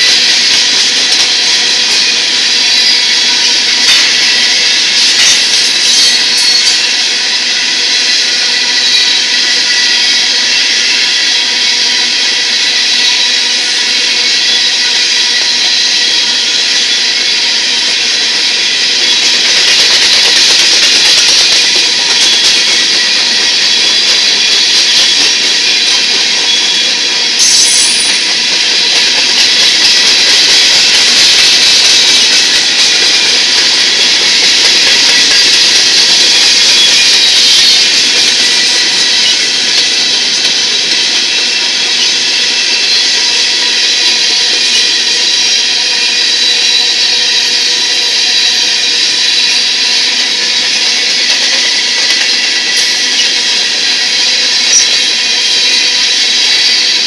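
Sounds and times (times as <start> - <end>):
steel wheels rolling on rail: 0.0 - 57.0.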